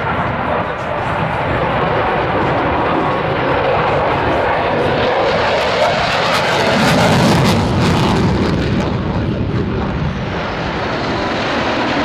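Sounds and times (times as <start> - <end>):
aircraft engine flying past: 0.0 - 12.0.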